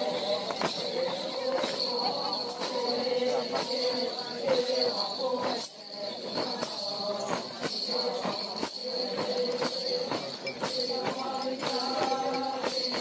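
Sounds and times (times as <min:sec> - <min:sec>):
steady rattling beat: 0:00.0 - 0:13.0
women chanting in unison: 0:00.0 - 0:13.0.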